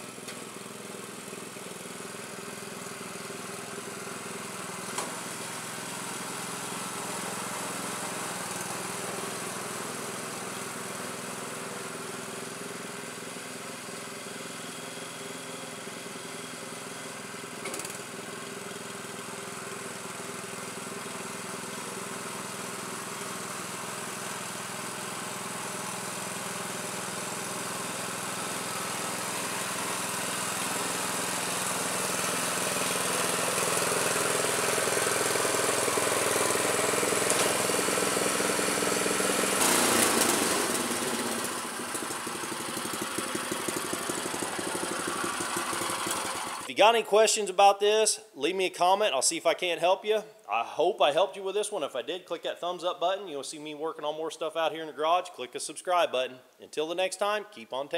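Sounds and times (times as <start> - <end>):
tiller engine running: 0.0 - 46.7.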